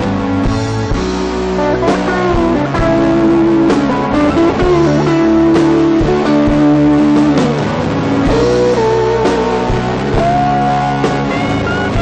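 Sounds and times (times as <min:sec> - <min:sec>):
drum hits: 0:00.0 - 0:12.0
electric guitar lead: 0:00.0 - 0:12.0
live rock band: 0:00.0 - 0:12.0.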